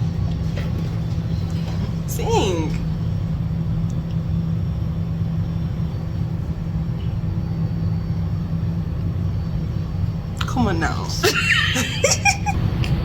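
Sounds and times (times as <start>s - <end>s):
low rumble with constant hum: 0.0s - 13.0s.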